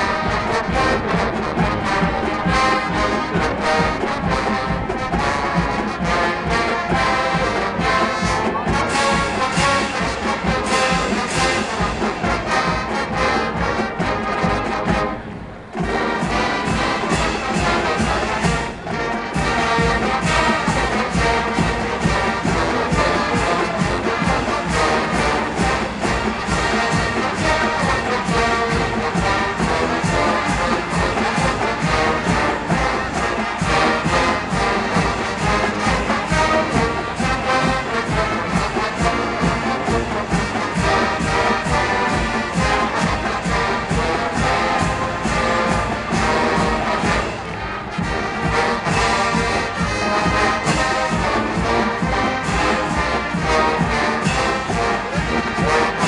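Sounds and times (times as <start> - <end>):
marching band playing: 0.0 - 56.0.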